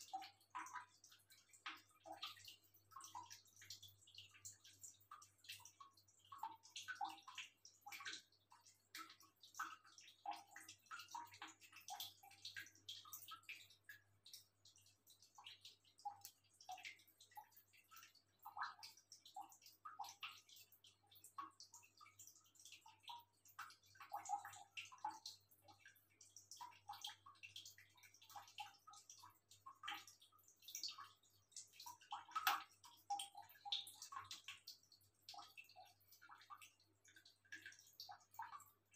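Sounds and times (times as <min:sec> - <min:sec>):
cat lapping water: 0:00.0 - 0:38.9.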